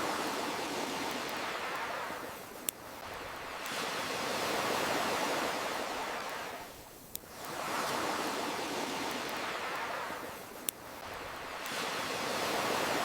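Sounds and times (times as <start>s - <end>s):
ocean waves surging: 0.0s - 13.0s.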